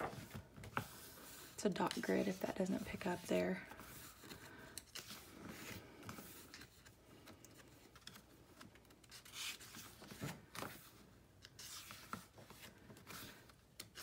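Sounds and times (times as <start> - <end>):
paper pages rustling: 0.0 - 14.0.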